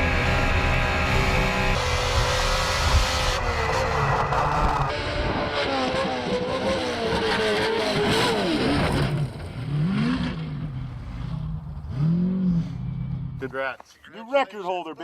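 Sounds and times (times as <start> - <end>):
truck engine revving: 0.0 - 13.5.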